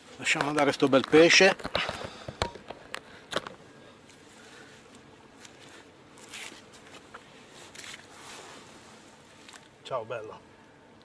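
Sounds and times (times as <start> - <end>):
rustling and handling noises: 0.2 - 9.8.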